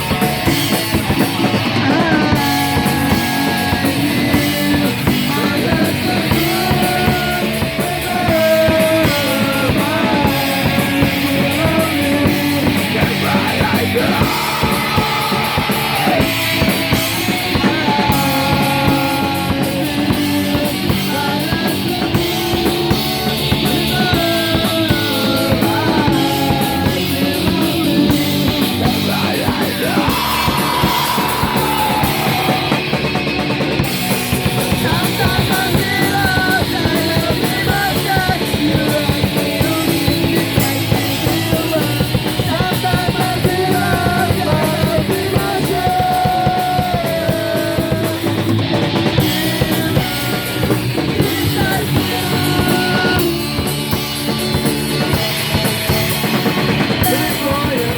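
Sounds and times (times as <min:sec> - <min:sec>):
rock song with drums and vocals: 0:00.0 - 0:57.9.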